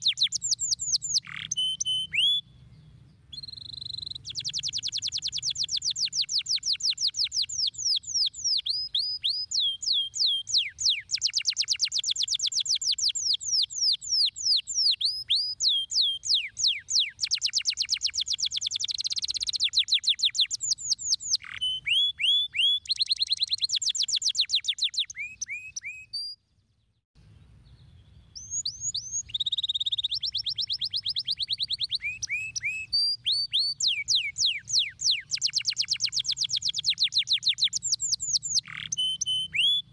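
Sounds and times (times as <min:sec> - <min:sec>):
canary singing trills: 0:00.0 - 0:26.4, 0:27.6 - 0:39.9.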